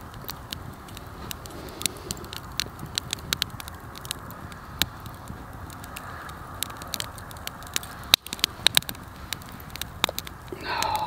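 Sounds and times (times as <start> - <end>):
campfire crackling and popping: 0.0 - 11.0
low steady hiss: 0.0 - 11.0.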